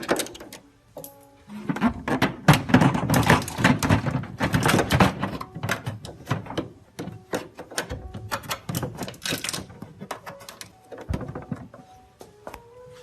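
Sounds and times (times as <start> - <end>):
knocks clicks and rattles of housing: 0.0 - 12.7.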